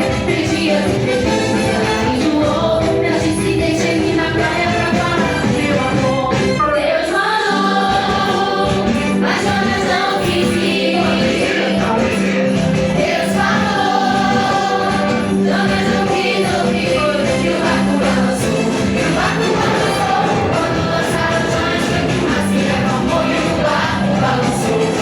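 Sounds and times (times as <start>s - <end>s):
children's choir singing: 0.0s - 25.0s
instrumental backing: 0.0s - 25.0s.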